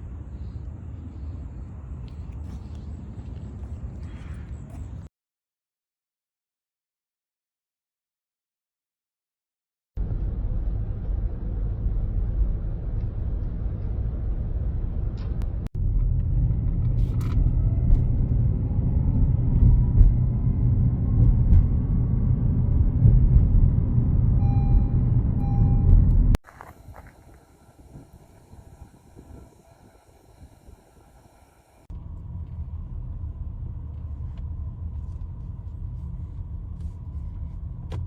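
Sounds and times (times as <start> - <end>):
car engine and road noise: 0.0 - 5.1, 10.0 - 38.0.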